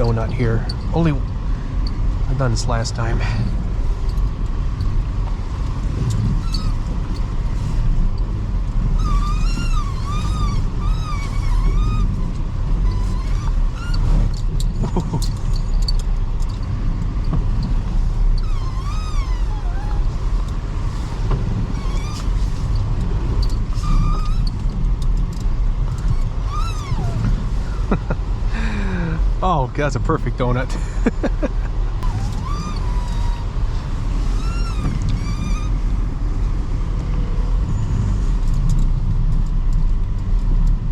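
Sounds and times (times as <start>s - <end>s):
thin whine: 0.0s - 36.6s
car engine and tyres rumbling: 0.0s - 40.9s.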